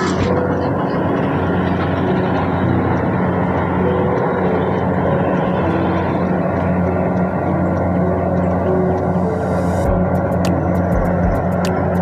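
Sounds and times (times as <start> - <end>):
combine harvester diesel engine drone: 0.0 - 12.0
mechanical rush: 0.0 - 12.0.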